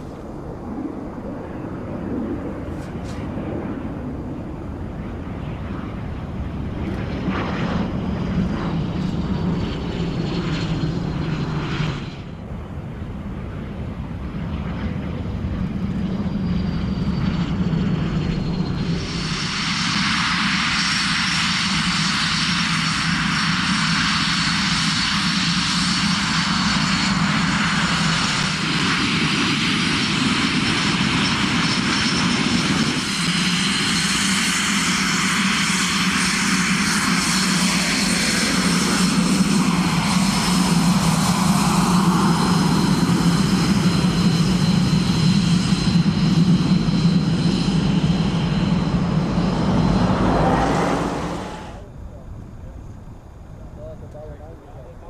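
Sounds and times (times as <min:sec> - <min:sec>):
jet engine hiss and whine: 0:00.0 - 0:55.0.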